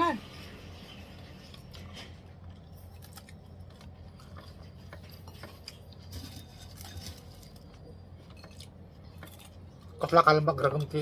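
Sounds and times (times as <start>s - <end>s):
chewing food: 0.7s - 11.0s.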